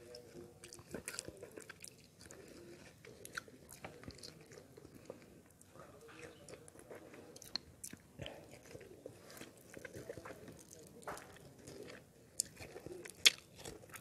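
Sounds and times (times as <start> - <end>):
person chewing wet fruit: 0.0 - 14.0.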